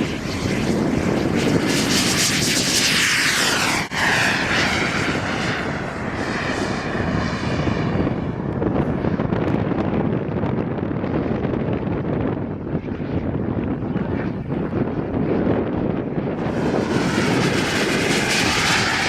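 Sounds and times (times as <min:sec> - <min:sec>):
model jet turbine flying past: 0:00.0 - 0:19.0.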